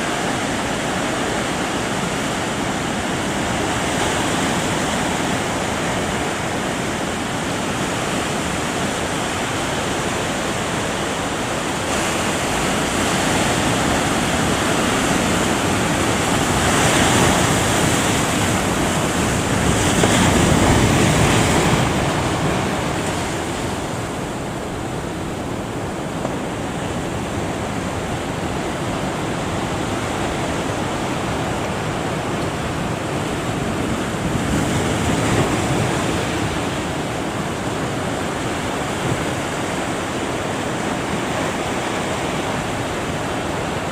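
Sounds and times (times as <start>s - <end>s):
ocean surf breaking: 0.0s - 43.9s.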